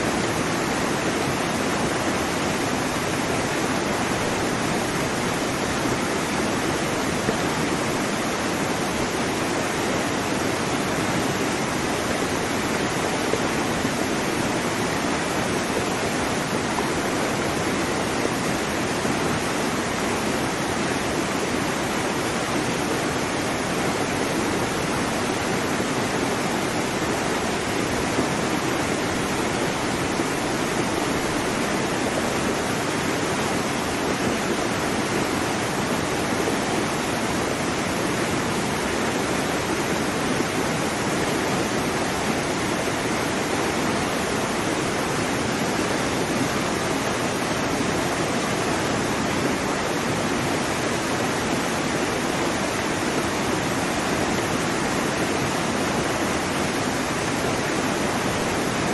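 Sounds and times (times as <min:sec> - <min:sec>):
waterfall splashing onto rocks: 0:00.0 - 0:58.9.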